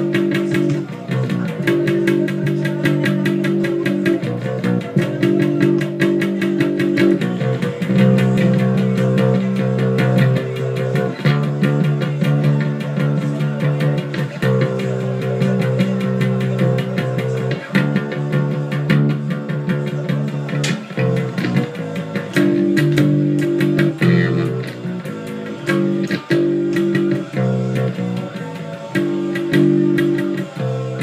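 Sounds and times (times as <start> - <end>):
electric bass guitar picking: 0.0 - 31.0
punk rock band playing: 0.0 - 31.0.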